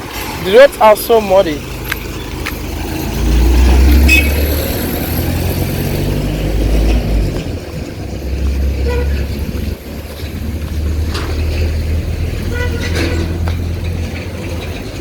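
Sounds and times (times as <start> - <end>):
motor vehicle rumble on road: 0.0 - 15.0.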